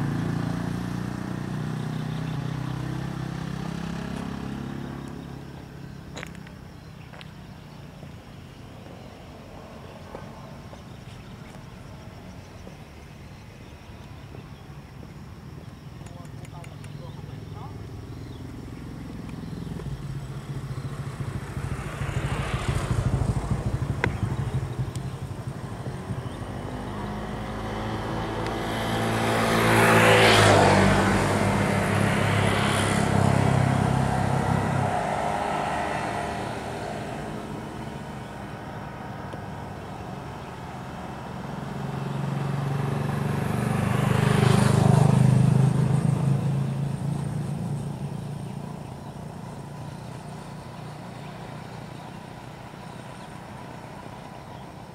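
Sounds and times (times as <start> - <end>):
low engine hum: 0.0 - 54.9
vehicles passing: 0.0 - 54.9.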